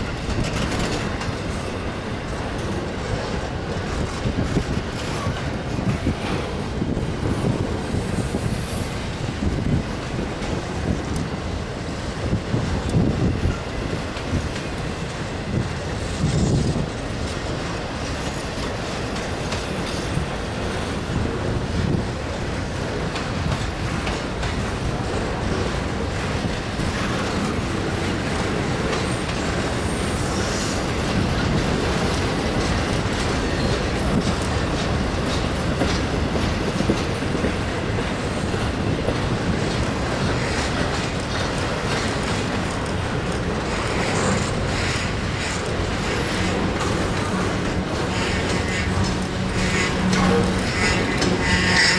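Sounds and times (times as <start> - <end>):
wheels clicking over rail joints: 0.0 - 8.2, 8.8 - 51.9
freight train rolling past: 0.0 - 51.9.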